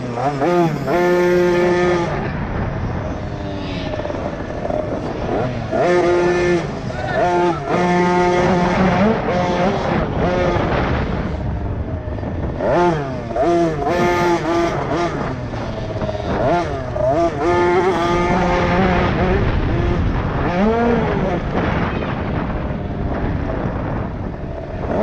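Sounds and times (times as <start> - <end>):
motocross bike engines revving: 0.0 - 25.0.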